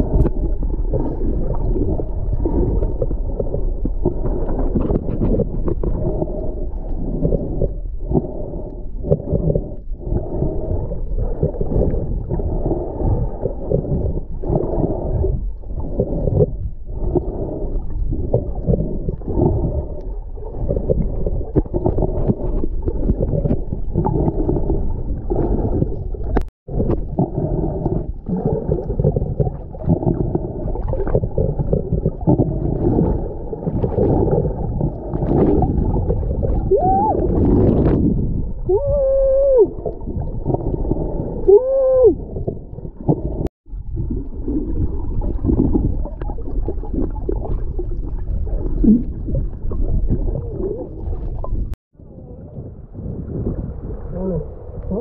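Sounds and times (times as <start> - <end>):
muffled underwater water rush: 0.0 - 55.0
underwater gurgles and knocks: 0.0 - 55.0.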